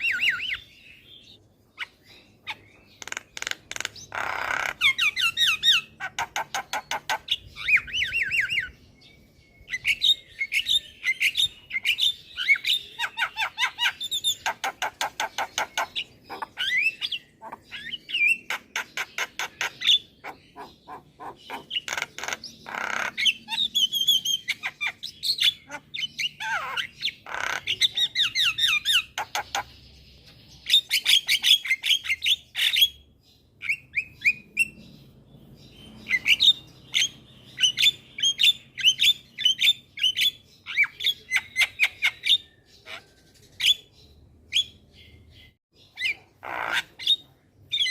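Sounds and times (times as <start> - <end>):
myna bird singing: 0.0 - 47.9.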